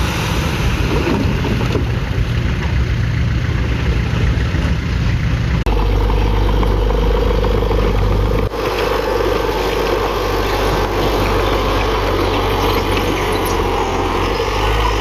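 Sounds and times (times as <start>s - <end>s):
diesel machinery engine drone: 0.0s - 15.0s.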